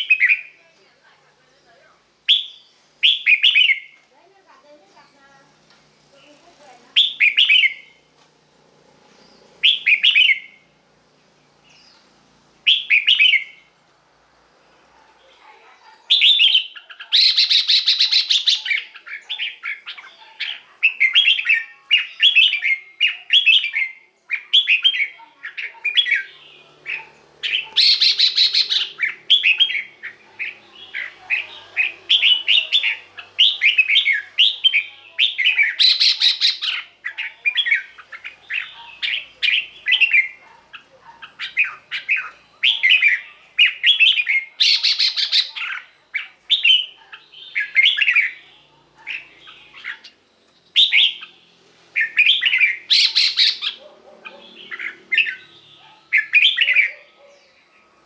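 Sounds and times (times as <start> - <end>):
bird singing warbled phrases: 0.0 - 8.1, 9.1 - 10.8, 11.4 - 13.8, 15.0 - 58.0.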